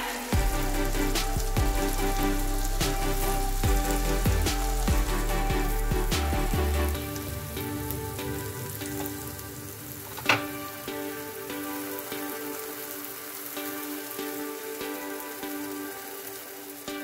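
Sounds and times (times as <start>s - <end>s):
banana slices frying in fat: 0.0s - 17.0s.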